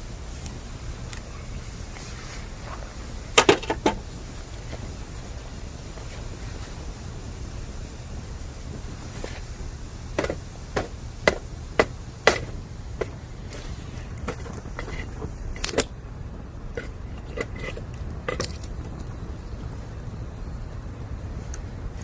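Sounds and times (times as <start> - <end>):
bamboo crackling and popping in fire: 0.0 - 22.0
low rumble: 0.0 - 22.0.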